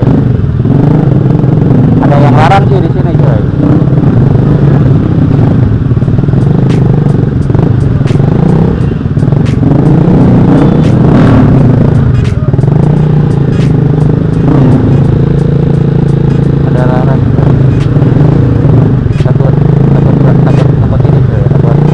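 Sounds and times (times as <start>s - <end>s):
motorcycle engine at low revs: 0.0s - 21.9s.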